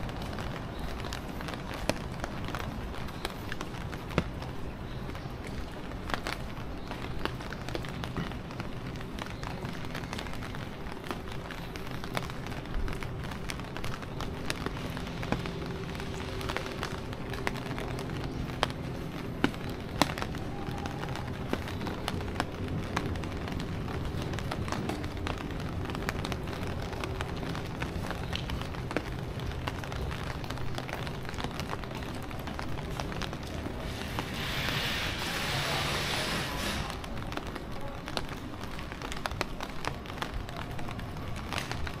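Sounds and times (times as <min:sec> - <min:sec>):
street background rush: 0:00.0 - 0:42.0.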